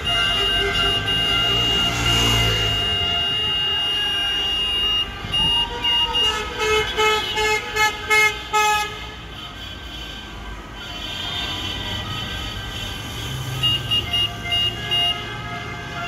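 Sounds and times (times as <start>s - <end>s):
car horns honking: 0.0s - 16.0s
passing traffic: 0.0s - 16.0s.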